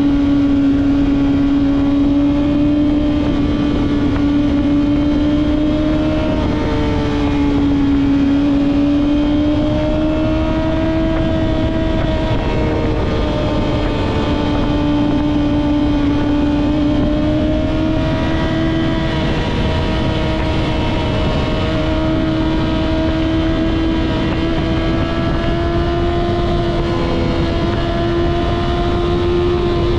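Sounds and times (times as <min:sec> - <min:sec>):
motorcycle engine at high revs: 0:00.0 - 0:29.9
wind on microphone: 0:00.0 - 0:29.9.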